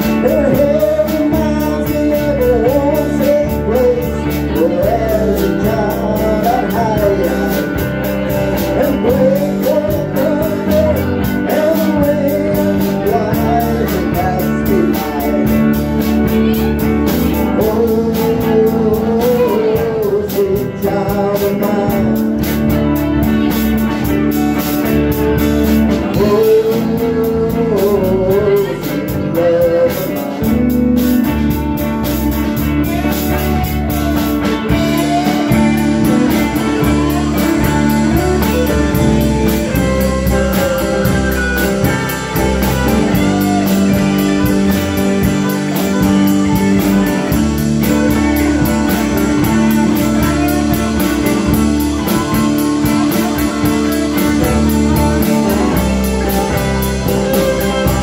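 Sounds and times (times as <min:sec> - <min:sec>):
live rock band playing: 0:00.0 - 0:58.0
sliding melody line: 0:00.0 - 0:58.0.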